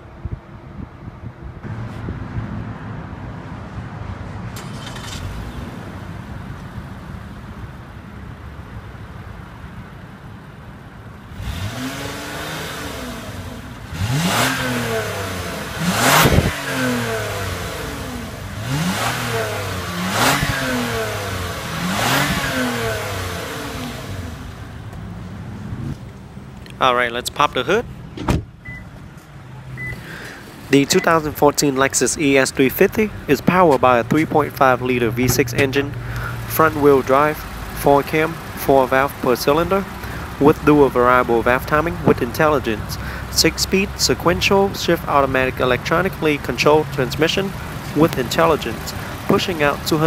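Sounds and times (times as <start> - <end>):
car engine revving: 1.6 - 8.6, 10.5 - 50.0
car engine idling: 4.5 - 50.0.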